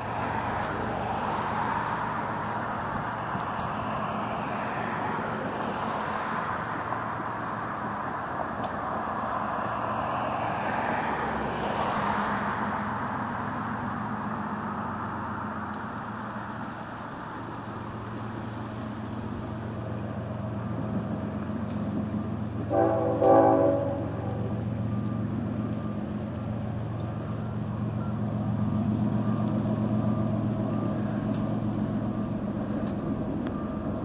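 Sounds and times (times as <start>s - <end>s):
cars driving past: 0.0s - 34.0s.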